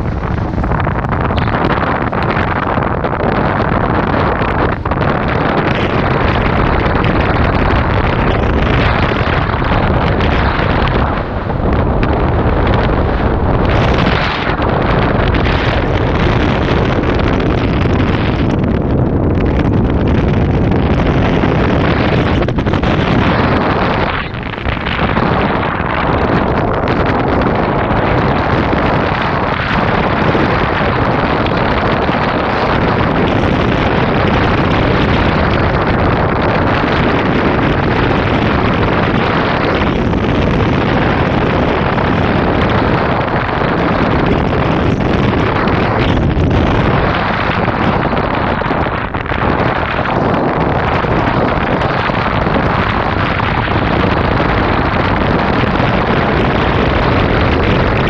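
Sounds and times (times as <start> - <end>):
wind rushing on microphone: 0.0 - 58.0.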